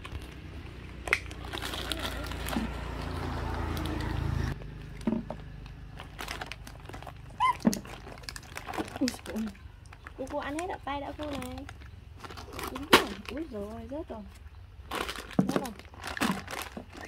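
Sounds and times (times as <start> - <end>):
plastic snack bag crinkling: 0.0 - 3.1, 4.6 - 13.6, 14.8 - 17.0.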